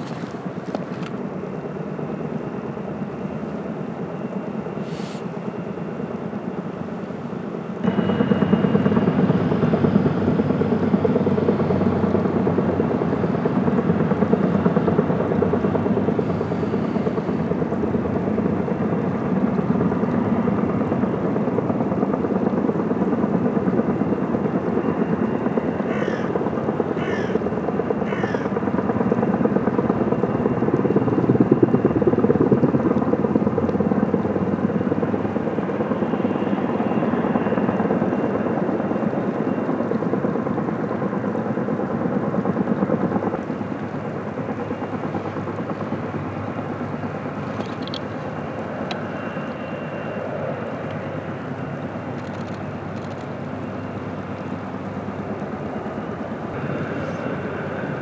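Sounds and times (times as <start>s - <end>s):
helicopter rotors and engine: 0.0s - 58.0s.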